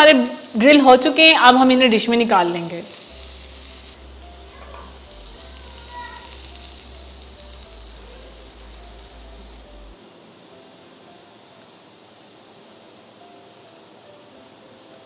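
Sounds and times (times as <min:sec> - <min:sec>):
faint soft music: 0:00.0 - 0:15.0
skewers sizzling on a grill pan: 0:00.0 - 0:15.0.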